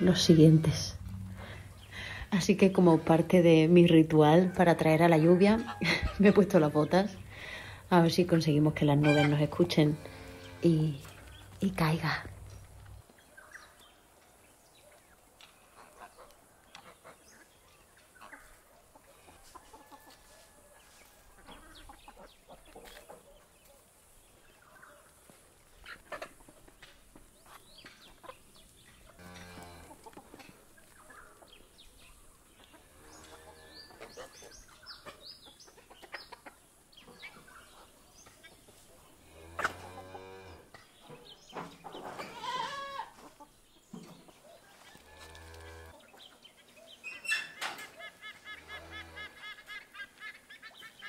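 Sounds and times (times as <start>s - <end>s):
chickens clucking: 0.0s - 51.0s.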